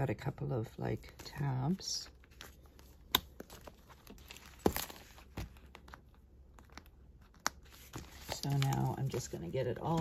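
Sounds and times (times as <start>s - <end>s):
paper and plastic rustling: 1.0s - 10.0s.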